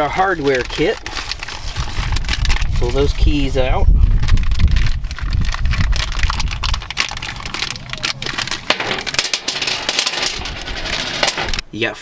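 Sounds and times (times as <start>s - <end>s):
small metal parts clinking: 0.0s - 3.4s, 4.2s - 11.6s
plastic bag crinkling: 0.0s - 11.6s
low handling rumble: 1.2s - 11.6s.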